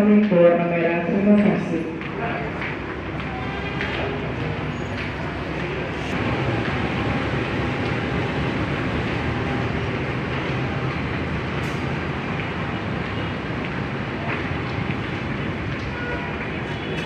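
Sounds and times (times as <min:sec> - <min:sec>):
train rumbling in motion: 0:00.0 - 0:17.0.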